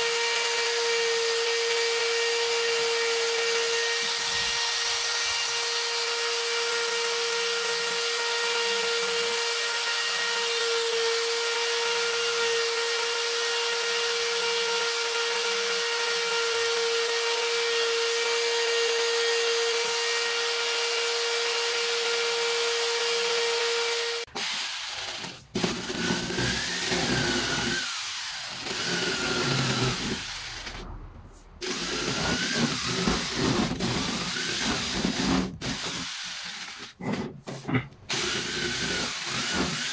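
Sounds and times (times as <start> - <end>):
rotary tool grinding wood: 0.0 - 30.8, 31.6 - 39.9.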